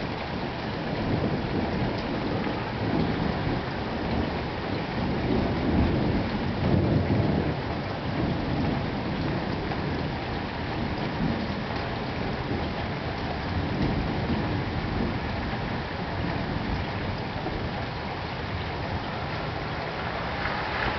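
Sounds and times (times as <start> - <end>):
low rumble of thunder: 0.0 - 20.9
steady rain falling: 0.0 - 20.9.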